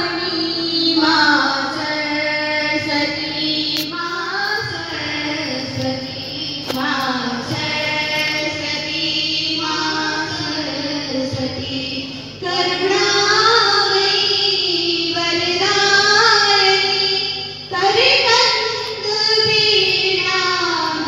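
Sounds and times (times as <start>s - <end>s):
women singing through microphones: 0.0s - 21.0s.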